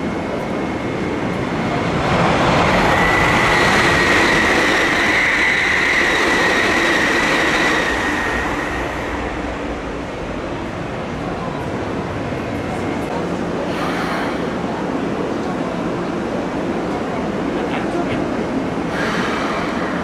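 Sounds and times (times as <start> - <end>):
express train passing: 0.0 - 20.0
train high whine: 0.0 - 20.0.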